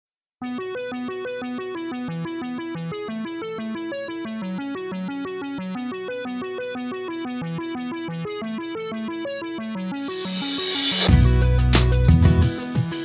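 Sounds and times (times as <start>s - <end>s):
repeating keyboard arpeggio: 0.4s - 13.0s.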